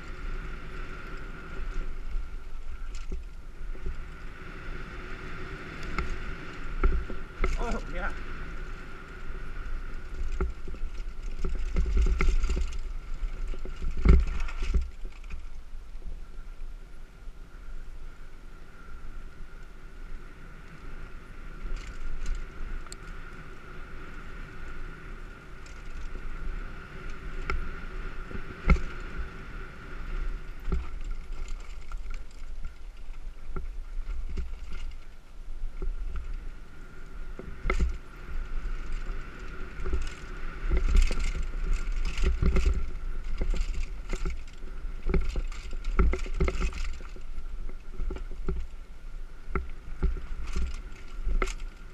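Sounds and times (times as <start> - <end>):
bike knocking and rattling: 0.0 - 16.3, 20.6 - 51.9
bike rumbling on dirt trail: 0.0 - 51.9
wind on microphone: 0.0 - 51.9.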